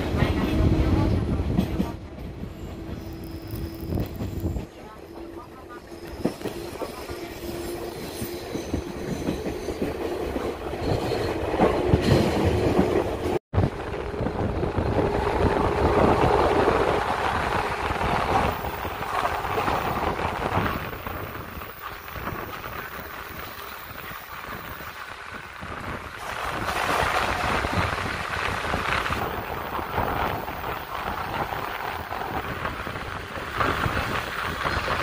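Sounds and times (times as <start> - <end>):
rushing wind: 0.0 - 35.0
train rail and wheel noise: 0.0 - 35.0.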